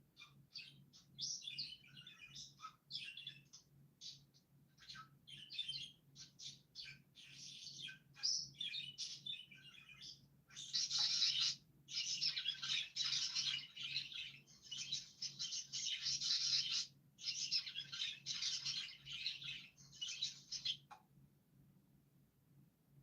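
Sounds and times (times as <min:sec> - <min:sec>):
small birds chirping: 0:00.0 - 0:21.2.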